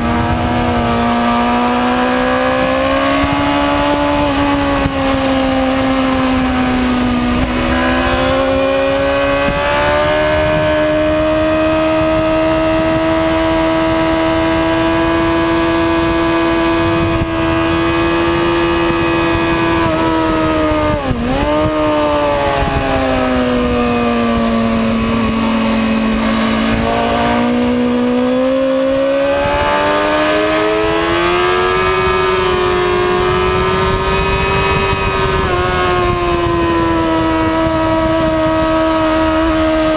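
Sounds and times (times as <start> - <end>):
motorcycle engine revving high: 0.0 - 39.9
wind rush: 0.0 - 39.9.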